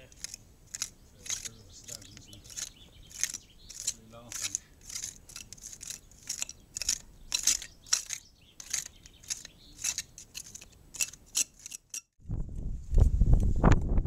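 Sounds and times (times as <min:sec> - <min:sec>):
hand trowels scraping soil: 0:00.0 - 0:12.1.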